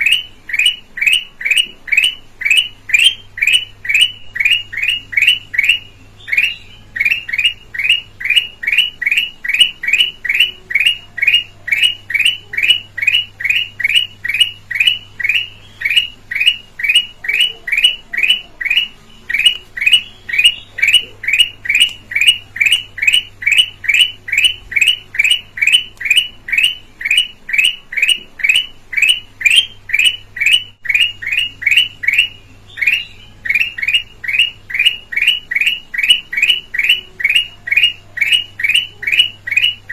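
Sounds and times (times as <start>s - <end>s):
bird calling downward-slurred note: 0.0s - 39.9s.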